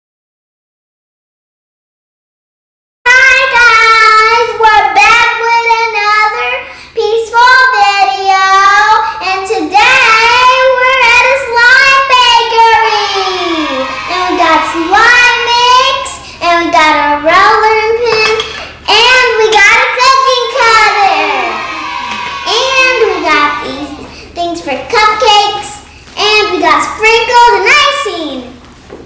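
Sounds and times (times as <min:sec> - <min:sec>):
child singing: 0:03.1 - 0:21.7, 0:22.3 - 0:28.5.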